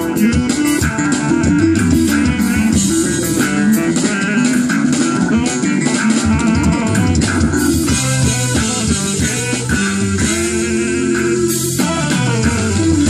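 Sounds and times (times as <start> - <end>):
bass guitar: 0.0 - 13.0
drum kit: 0.0 - 13.0
guitar: 0.0 - 13.0
keyboards: 0.0 - 13.0.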